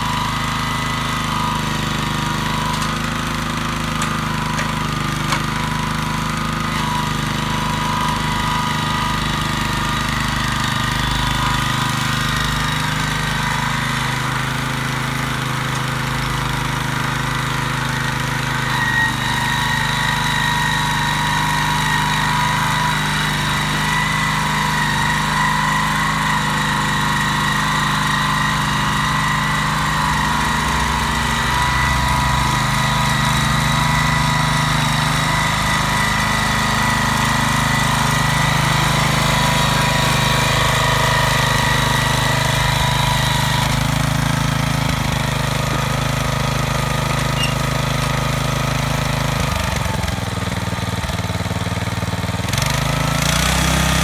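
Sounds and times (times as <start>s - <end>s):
tiller engine running: 0.0s - 54.0s.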